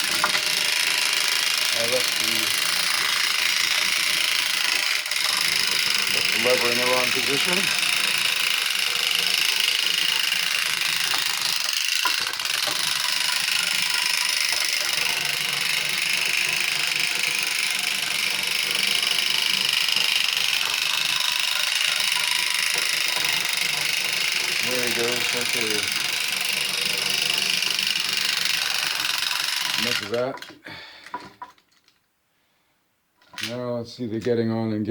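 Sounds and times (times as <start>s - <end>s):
clockwork toy motorcycle buzzing: 0.0s - 30.5s.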